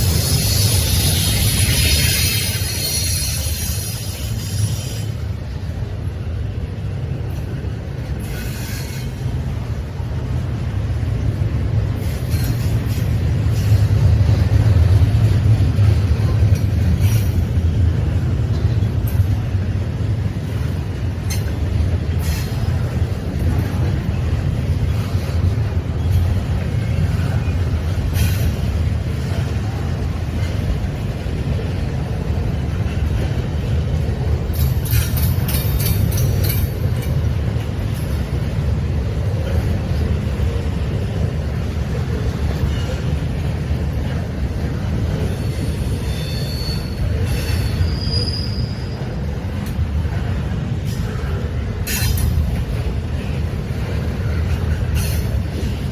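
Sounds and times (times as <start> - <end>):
train rumbling past: 0.0 - 55.9.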